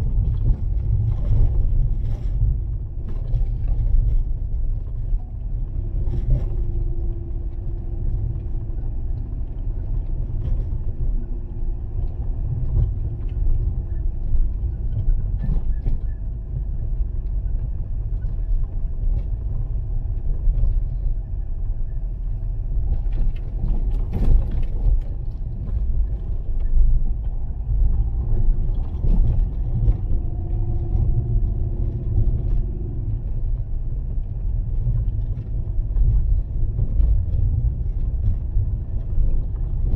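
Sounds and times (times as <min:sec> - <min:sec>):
car engine and tyres rumbling: 0:00.0 - 0:39.9
faint steady hum: 0:00.0 - 0:39.9.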